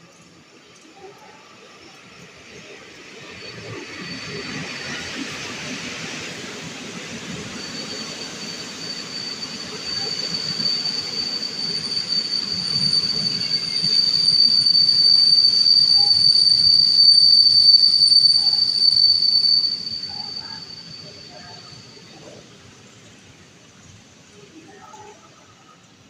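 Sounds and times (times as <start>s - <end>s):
train wheels squealing: 0.1s - 25.8s
low rumble of train wheels: 0.1s - 26.0s.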